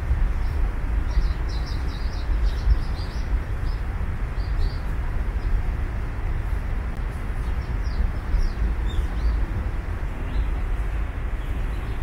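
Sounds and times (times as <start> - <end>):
steady low rumble: 0.0 - 12.0
small birds chirping: 0.2 - 5.7, 7.1 - 12.0.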